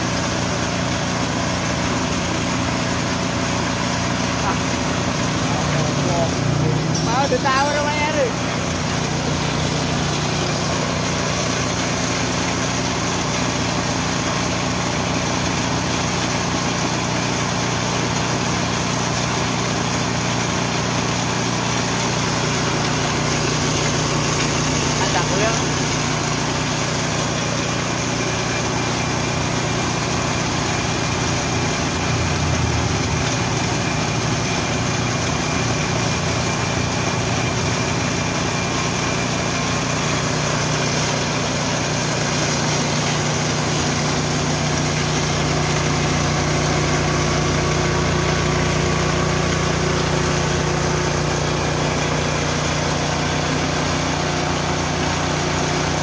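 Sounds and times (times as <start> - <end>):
grain mill engine running: 0.0 - 56.0.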